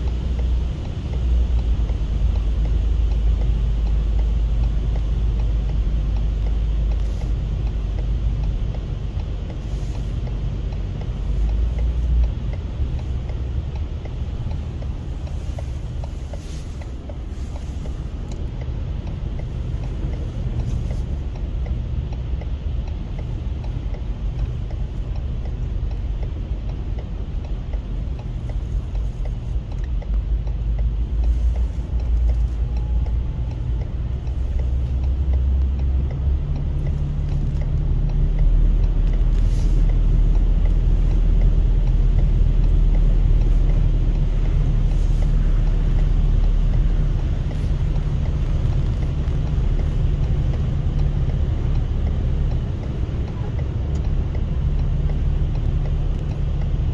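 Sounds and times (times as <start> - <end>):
car engine rumbling: 0.0 - 56.9
water washing against car: 0.1 - 56.9.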